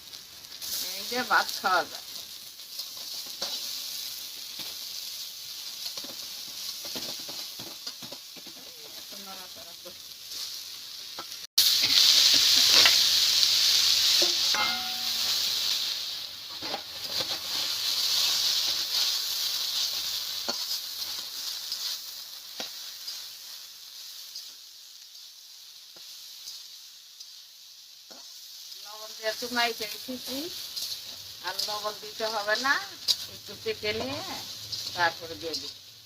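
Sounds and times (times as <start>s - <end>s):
food frying in hot oil: 0.0s - 36.0s.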